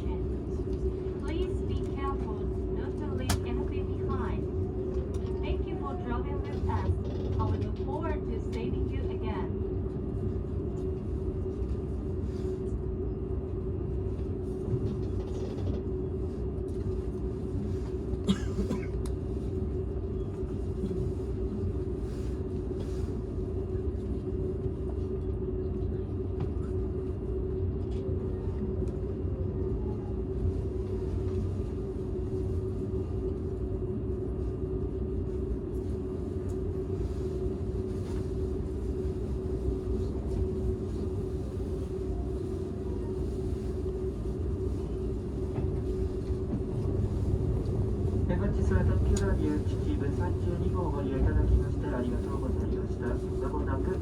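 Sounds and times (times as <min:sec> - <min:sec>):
train wheels rumbling on rail: 0:00.0 - 0:12.7, 0:14.0 - 0:25.0, 0:25.8 - 0:54.0.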